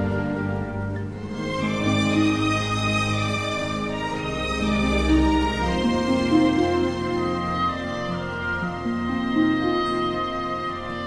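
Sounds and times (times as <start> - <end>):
slow music of long held notes: 0.0 - 11.0.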